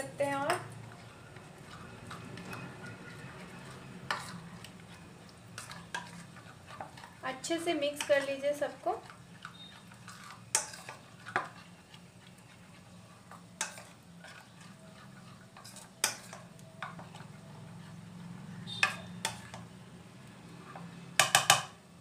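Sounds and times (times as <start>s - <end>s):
spoon scraping in bowl: 0.0s - 19.7s.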